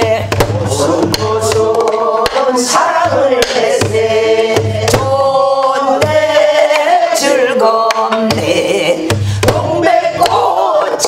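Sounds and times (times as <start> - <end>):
barrel drum strokes and thumps: 0.0 - 6.9, 8.2 - 10.5.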